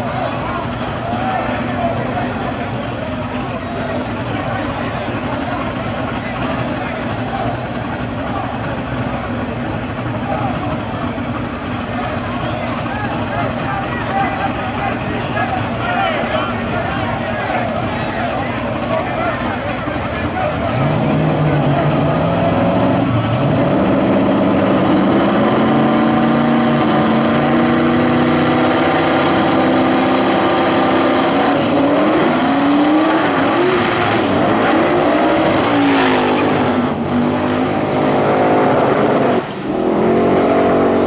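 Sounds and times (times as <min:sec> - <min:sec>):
race car engine at high revs: 0:00.0 - 0:41.0.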